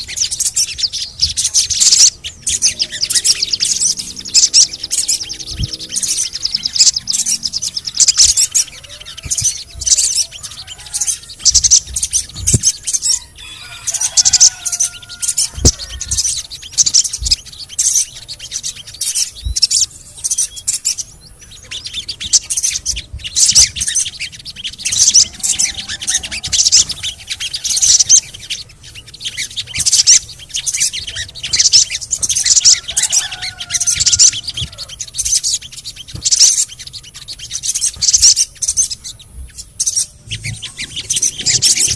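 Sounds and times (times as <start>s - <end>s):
bird singing high chirps: 0.0s - 41.9s.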